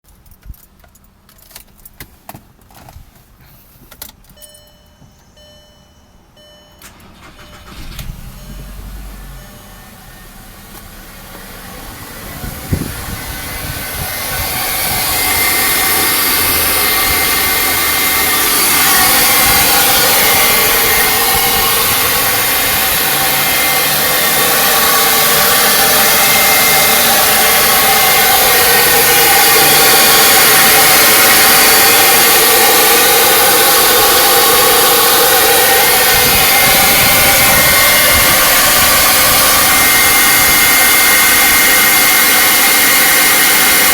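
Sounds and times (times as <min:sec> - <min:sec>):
car engine whirring with whine: 0:00.1 - 0:43.9.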